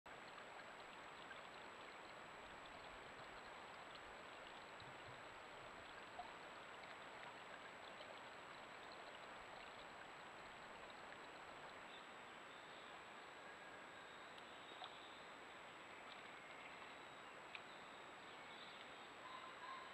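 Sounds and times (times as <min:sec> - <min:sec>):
faint ticks: 0:00.1 - 0:12.1, 0:14.1 - 0:15.3, 0:15.9 - 0:19.1
water trickling: 0:00.1 - 0:19.9.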